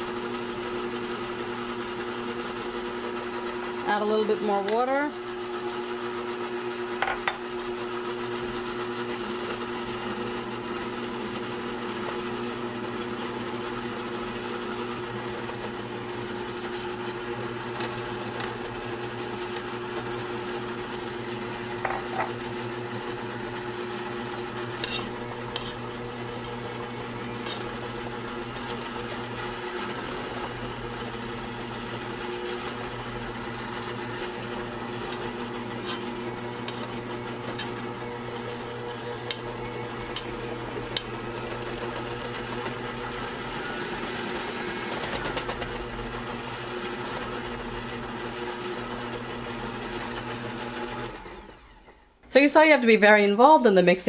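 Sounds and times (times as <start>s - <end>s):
stand mixer motor kneading dough: 0.0s - 52.4s.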